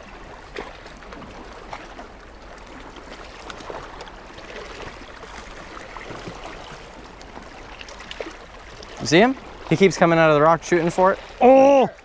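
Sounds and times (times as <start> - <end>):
small waves lapping on rocks: 0.0 - 12.0.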